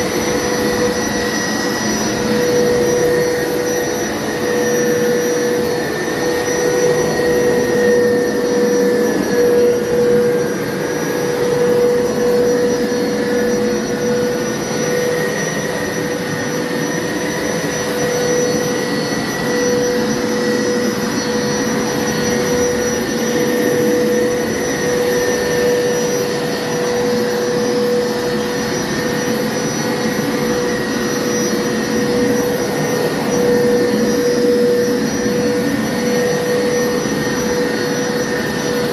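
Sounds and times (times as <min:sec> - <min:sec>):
carpet cleaner motor humming: 0:00.0 - 0:38.9
high motor whine: 0:00.0 - 0:38.9.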